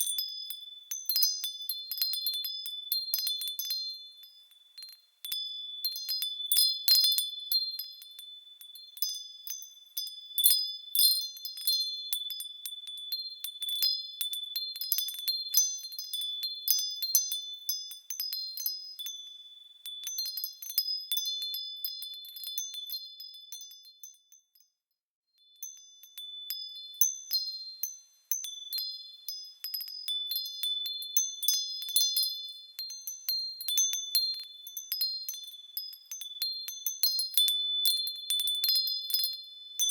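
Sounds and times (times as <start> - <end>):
wind chimes tinkling: 0.0 - 24.8, 25.4 - 39.9.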